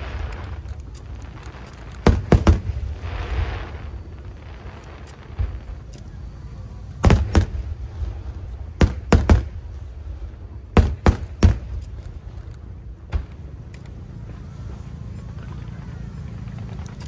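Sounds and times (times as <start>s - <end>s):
firework bangs: 0.0s - 14.4s
low steady rumble: 0.0s - 17.0s.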